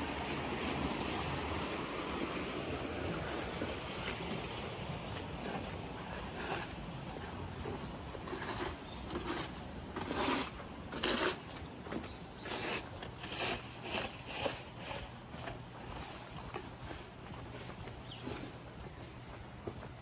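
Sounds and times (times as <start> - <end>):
footsteps on wet street: 3.0 - 20.0.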